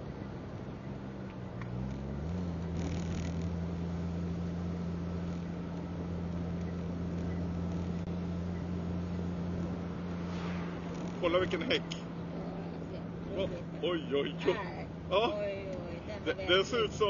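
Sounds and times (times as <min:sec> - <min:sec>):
car engine cruising: 0:00.0 - 0:17.0
road noise: 0:00.0 - 0:17.0.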